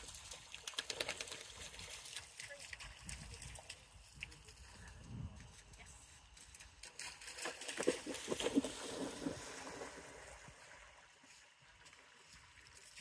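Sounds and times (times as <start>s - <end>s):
water splashing from dog swimming: 0.0s - 4.8s, 6.8s - 13.0s.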